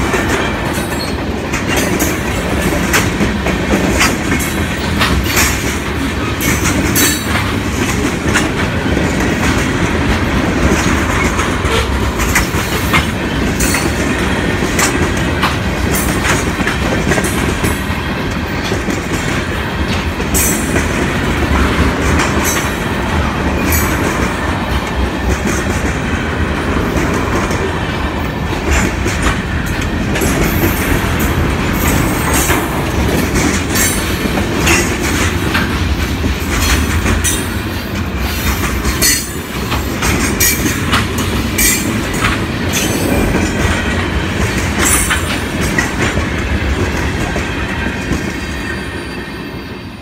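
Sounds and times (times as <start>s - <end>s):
wheels clicking over rail joints: 0.0s - 48.7s
train wheels rumbling on rail: 0.0s - 50.0s.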